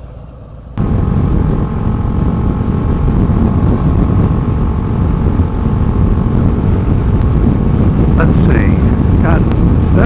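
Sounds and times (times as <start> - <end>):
motorcycle engine running: 0.8 - 10.0
wind rush on microphone: 0.8 - 10.0.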